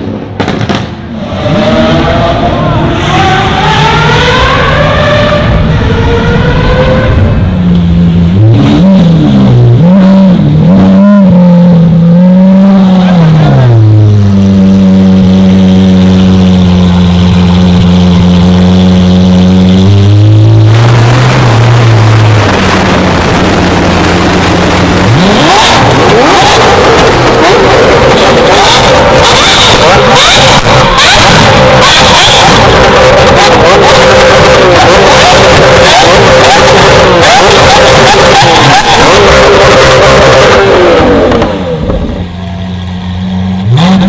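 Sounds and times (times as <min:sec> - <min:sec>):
sports car engine revving: 0:00.0 - 0:44.0.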